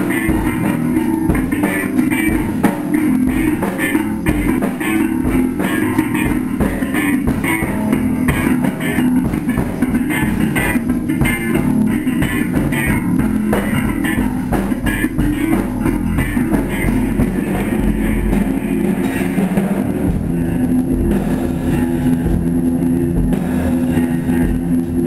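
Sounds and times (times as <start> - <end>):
drum kit: 0.0 - 25.0
electric guitar: 0.0 - 25.0.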